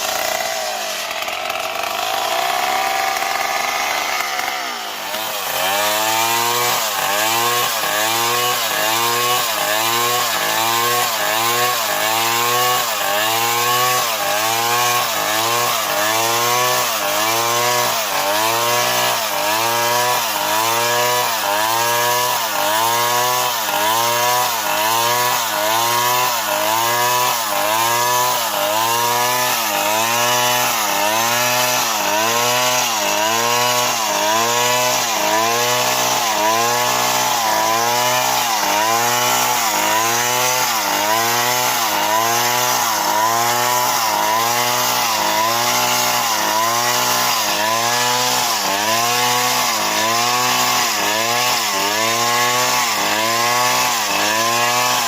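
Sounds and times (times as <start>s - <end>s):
chainsaw sawing wood: 0.0s - 55.0s.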